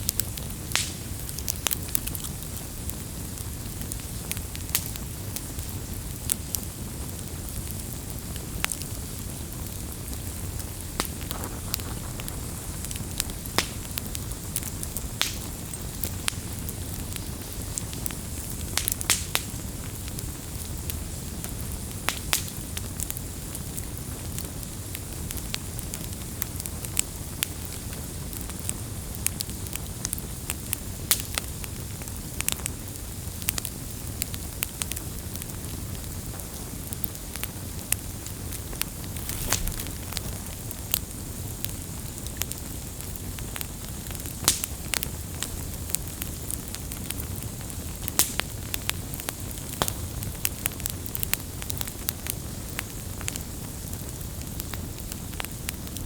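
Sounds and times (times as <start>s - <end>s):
campfire crackles and pops: 0.0s - 56.0s
low rush of flames: 0.0s - 56.0s.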